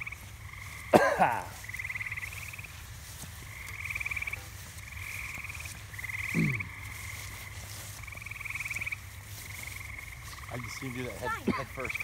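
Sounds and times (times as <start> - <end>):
frogs trilling: 0.0 - 12.0.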